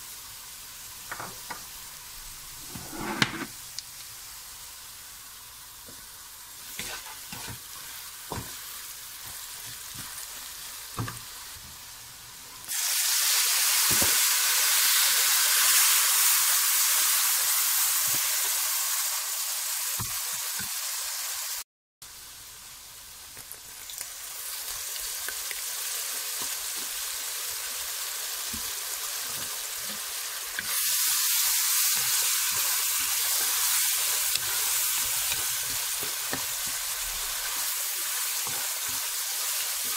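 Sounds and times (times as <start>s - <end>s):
onions sizzling in a wok: 0.0s - 39.9s.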